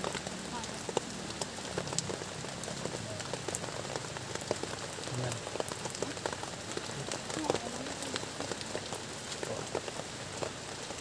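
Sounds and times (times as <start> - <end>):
rain on a plastic tarp: 0.0 - 11.0.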